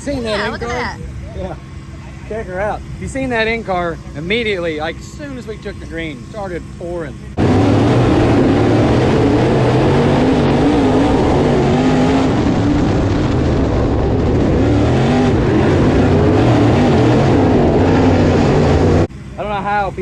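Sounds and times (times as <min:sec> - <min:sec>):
race car engine revving: 0:00.0 - 0:19.1
constant rushing noise: 0:00.0 - 0:20.0.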